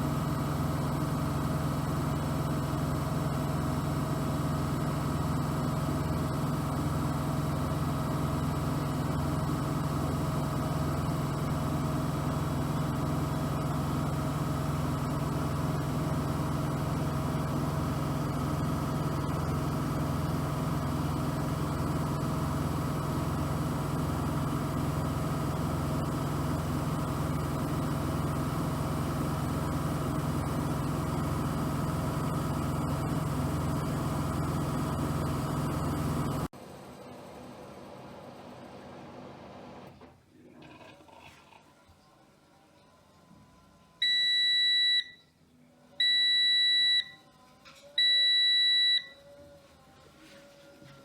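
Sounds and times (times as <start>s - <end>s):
washing machine running: 0.0s - 41.7s.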